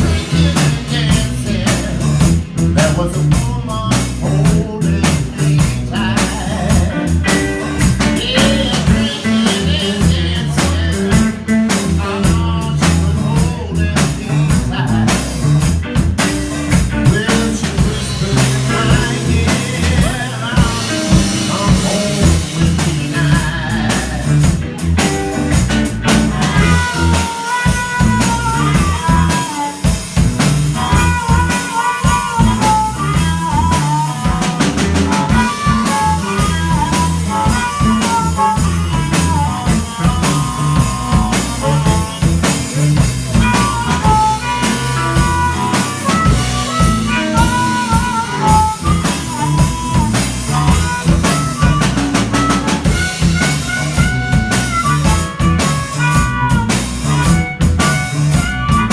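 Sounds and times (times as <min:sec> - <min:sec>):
bending lead guitar melody: 0:00.0 - 0:58.9
blues band playing live: 0:00.0 - 0:58.9.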